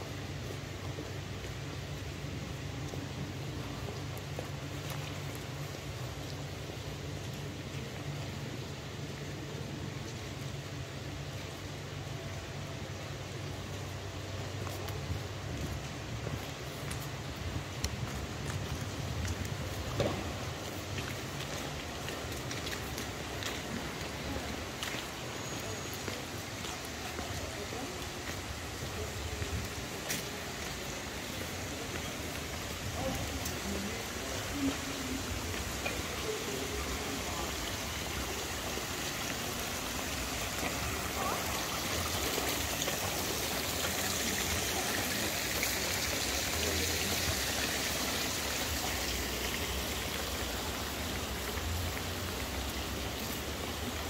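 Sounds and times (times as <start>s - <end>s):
rain on paving stones: 0.0s - 54.0s.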